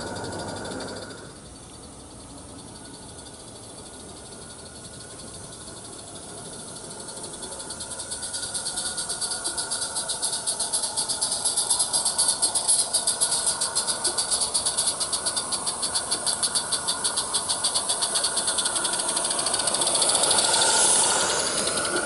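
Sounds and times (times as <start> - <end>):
steam hissing: 0.0 - 22.0
steam locomotive chuffing: 0.0 - 22.0.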